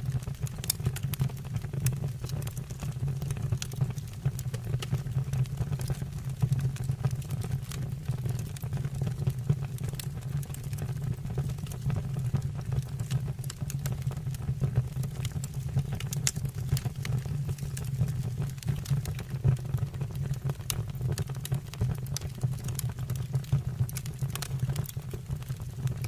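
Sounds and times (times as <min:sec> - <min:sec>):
fire crackling in fireplace: 0:00.0 - 0:26.0.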